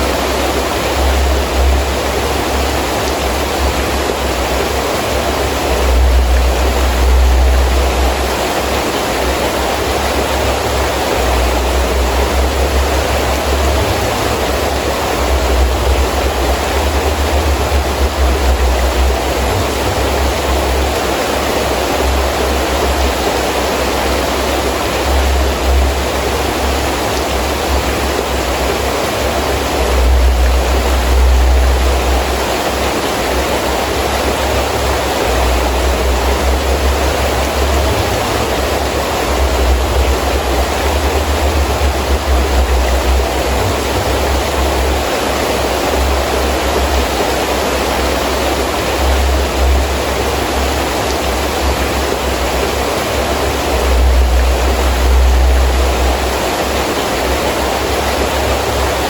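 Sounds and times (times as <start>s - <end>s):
heavy rain: 0.0s - 59.0s
wind gusts rumbling: 0.0s - 59.0s.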